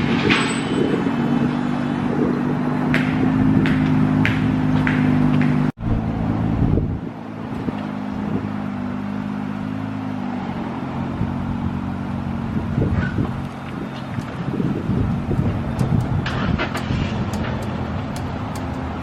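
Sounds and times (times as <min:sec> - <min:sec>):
car engine running: 0:00.8 - 0:19.0.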